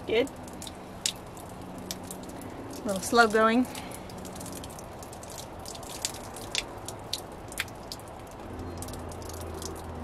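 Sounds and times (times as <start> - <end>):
water dripping: 0.0 - 10.0.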